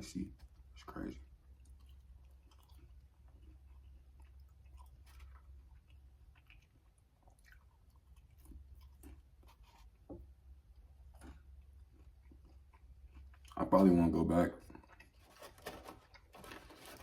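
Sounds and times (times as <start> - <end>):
person chewing: 0.4 - 13.7, 14.6 - 16.4.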